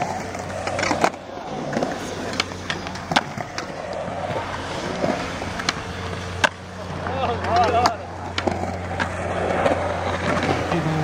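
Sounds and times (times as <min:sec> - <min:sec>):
skateboard wheels rolling on concrete: 0:00.0 - 0:11.0
skateboards clacking on concrete: 0:00.0 - 0:11.0.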